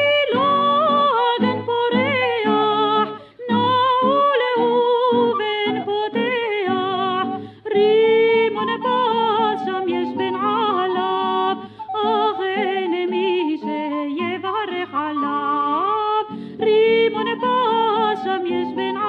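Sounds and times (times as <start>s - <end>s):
woman singing melismatic melody: 0.0s - 19.0s.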